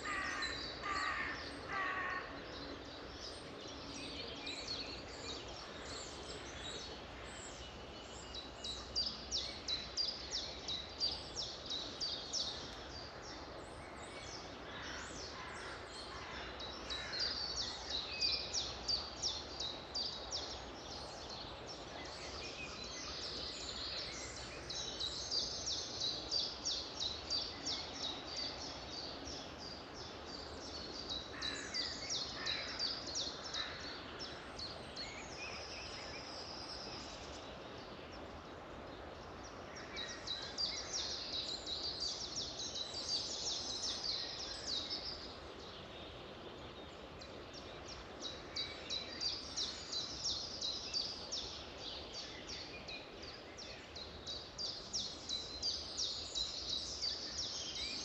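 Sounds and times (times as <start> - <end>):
background hiss: 0.0 - 58.0
songbirds singing: 0.0 - 58.0.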